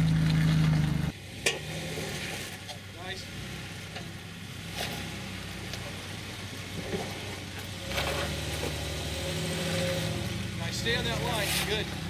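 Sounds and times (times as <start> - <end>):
off-road vehicle engine crawling: 0.0 - 12.0.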